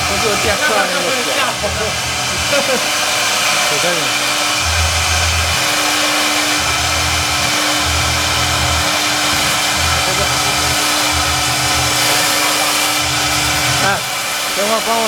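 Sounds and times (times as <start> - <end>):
foam router rushing noise: 0.0 - 15.0
low hum: 1.5 - 13.8.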